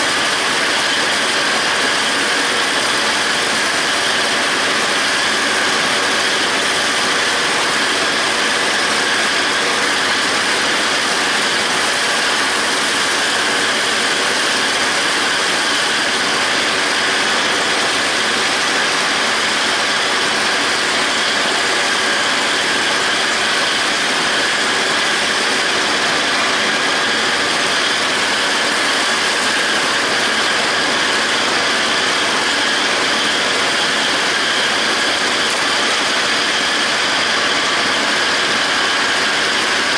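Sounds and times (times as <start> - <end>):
mower discs spinning: 0.0 - 39.9
tractor diesel engine running: 0.0 - 39.9.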